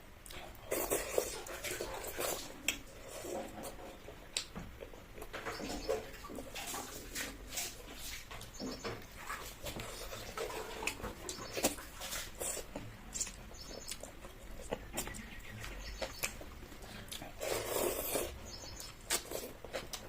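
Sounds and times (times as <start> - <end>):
mouth smacking and chewing: 0.2 - 20.0.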